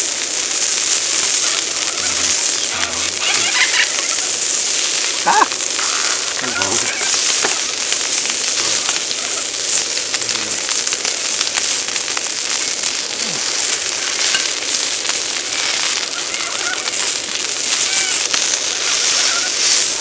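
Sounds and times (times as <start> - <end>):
beef sizzling: 0.0 - 20.0
fat spitting and crackling: 0.0 - 20.0.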